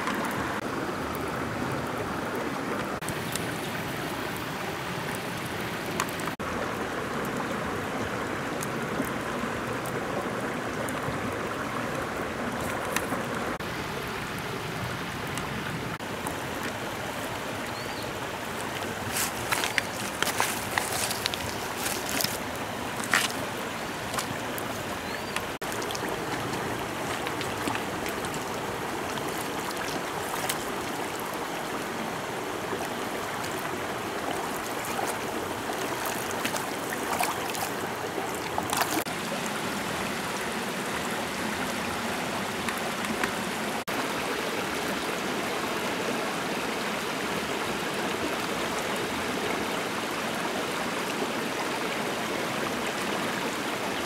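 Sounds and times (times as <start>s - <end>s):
stream running over stones: 0.0s - 54.0s.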